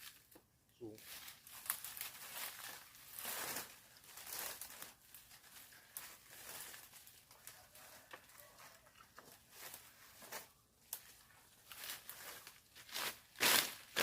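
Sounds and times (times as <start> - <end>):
leaves and twigs rustling: 0.0 - 14.0.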